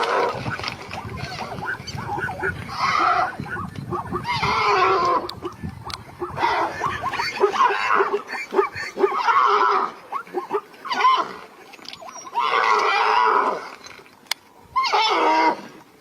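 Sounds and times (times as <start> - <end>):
long harsh animal calls: 0.0 - 13.8, 14.8 - 15.8.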